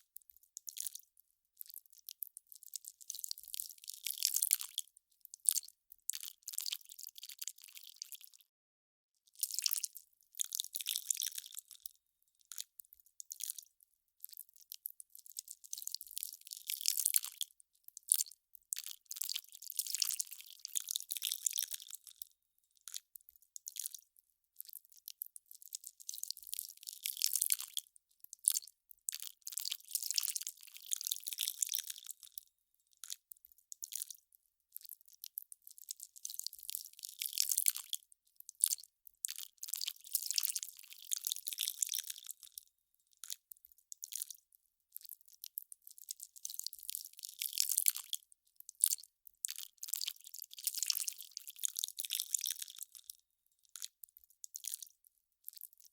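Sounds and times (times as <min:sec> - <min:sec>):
ice crackling and fizzing: 0:09.2 - 0:32.4, 0:33.0 - 0:42.6, 0:43.2 - 0:55.9.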